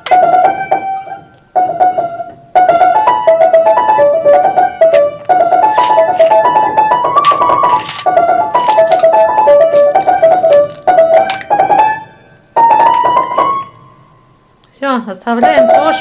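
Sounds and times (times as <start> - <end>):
piano melody: 0.0 - 14.6, 15.2 - 16.0.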